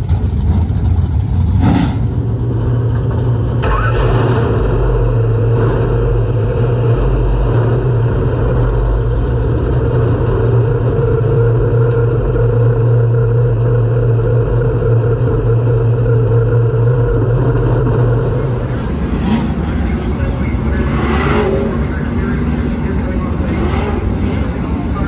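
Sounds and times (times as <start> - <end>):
race car engine running: 0.0 - 25.0.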